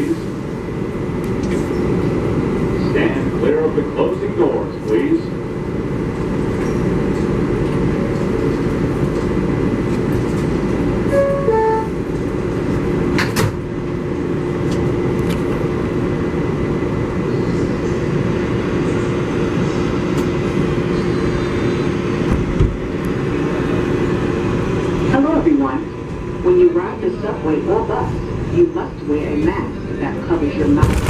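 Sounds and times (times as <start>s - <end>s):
subway train rumble: 0.0s - 31.0s.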